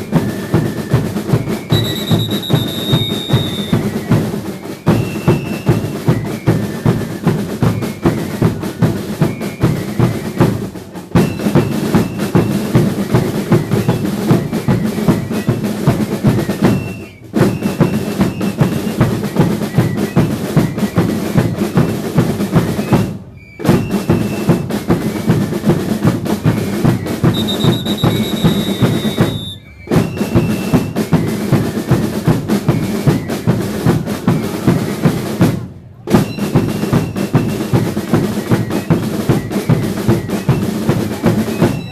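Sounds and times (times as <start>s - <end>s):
drum ensemble fast driving beat: 0.0s - 41.9s.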